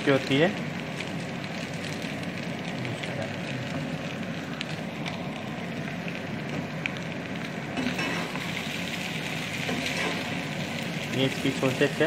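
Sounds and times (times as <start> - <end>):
noodles sizzling in frying pan: 0.0 - 12.0.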